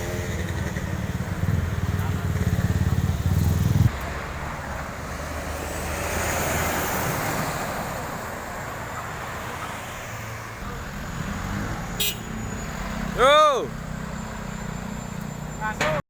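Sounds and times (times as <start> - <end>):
vehicle passing: 0.0 - 15.5.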